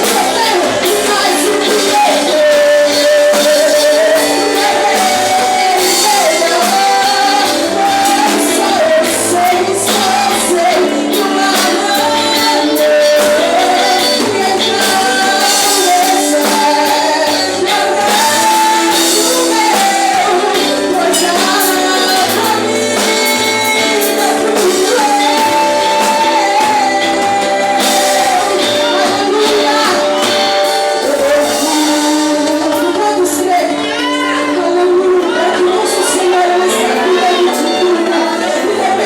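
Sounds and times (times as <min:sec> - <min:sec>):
band chords: 0:00.0 - 0:39.0
high percussion: 0:00.0 - 0:39.0
person singing: 0:00.0 - 0:39.0.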